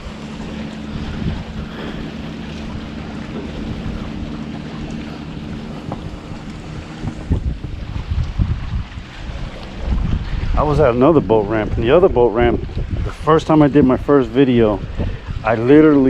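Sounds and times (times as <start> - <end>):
low motor hum: 0.0 - 16.0
wind buffeting microphone: 0.0 - 16.0.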